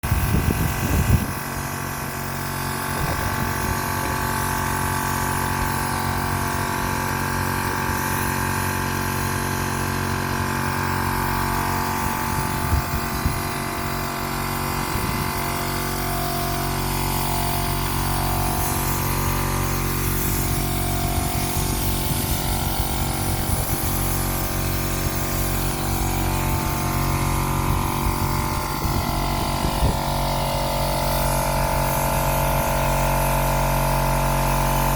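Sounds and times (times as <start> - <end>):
motor humming and whining: 0.0 - 34.9.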